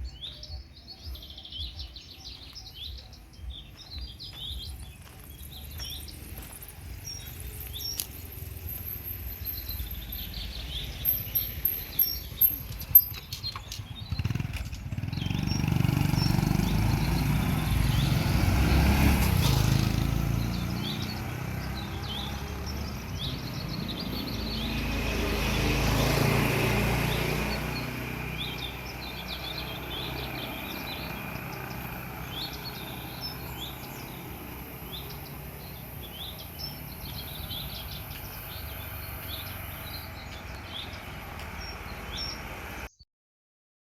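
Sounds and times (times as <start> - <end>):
birds chirping: 0.0 - 43.0
vehicle passing: 1.1 - 42.9.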